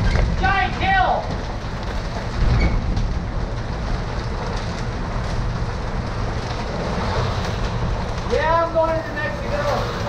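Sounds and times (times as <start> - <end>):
deep rumble: 0.0 - 10.0
driving rain and hail: 0.0 - 10.0
storm wind: 0.0 - 10.0.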